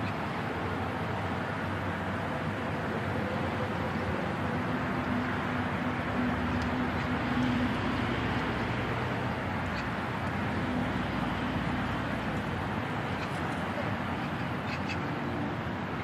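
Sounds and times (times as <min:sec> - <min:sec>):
distant road traffic: 0:00.0 - 0:16.0
faint low engine drone: 0:00.0 - 0:16.0.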